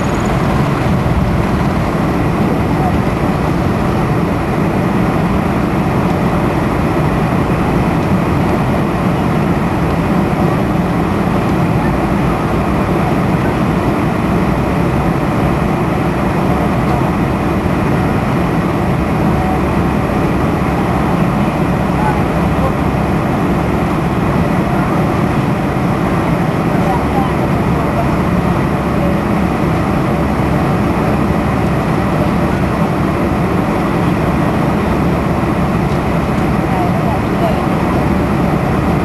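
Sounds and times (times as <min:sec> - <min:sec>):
jet engine rumble in cabin: 0:00.0 - 0:39.0.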